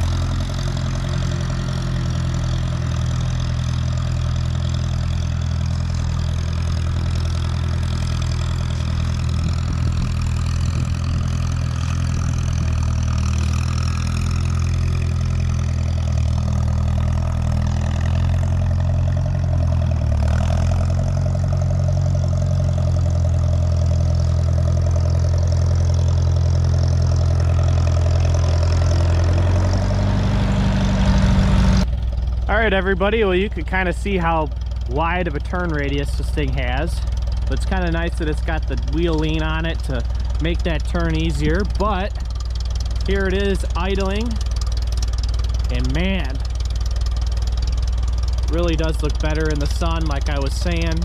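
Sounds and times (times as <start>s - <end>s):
engine running at low speed: 0.0s - 51.0s.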